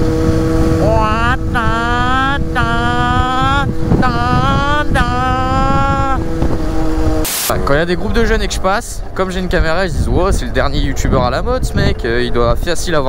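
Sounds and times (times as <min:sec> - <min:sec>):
two-stroke engine revving: 0:00.0 - 0:12.6
wind noise on microphone: 0:00.0 - 0:13.0.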